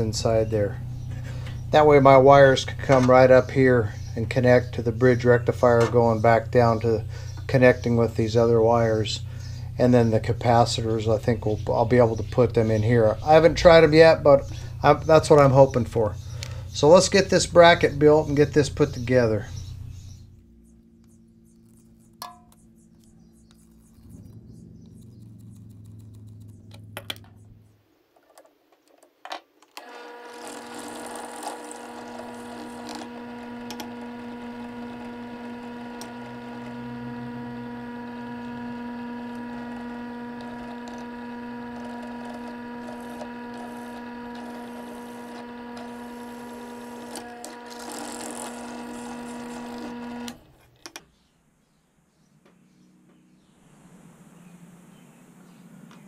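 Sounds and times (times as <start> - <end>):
drill press motor humming: 0.0 - 27.7, 29.7 - 50.7.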